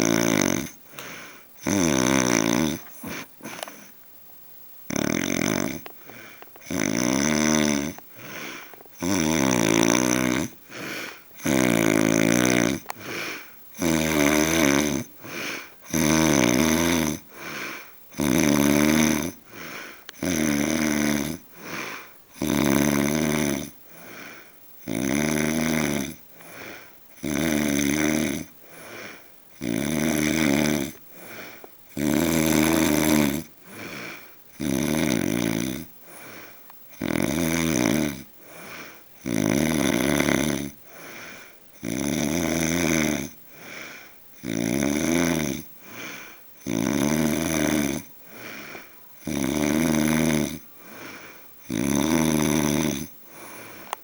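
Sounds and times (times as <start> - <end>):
man snoring: 0.0 - 3.9, 4.9 - 54.0.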